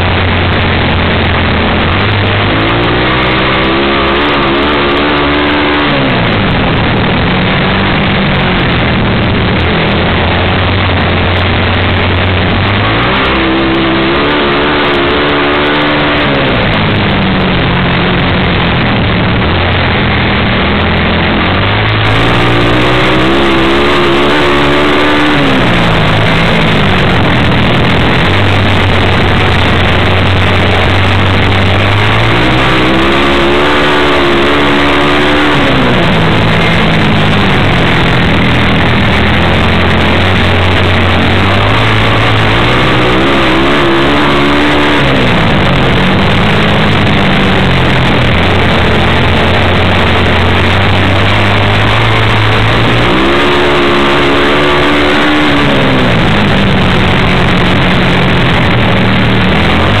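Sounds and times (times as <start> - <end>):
loud steady rush of noise: 0.0 - 60.0
motorcycle engine revving: 0.0 - 60.0.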